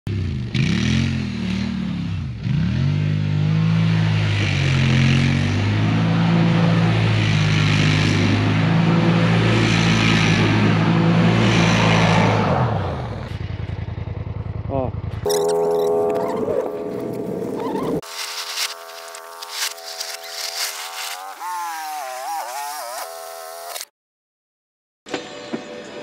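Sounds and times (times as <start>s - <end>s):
quad bike engine revving: 0.1s - 23.7s.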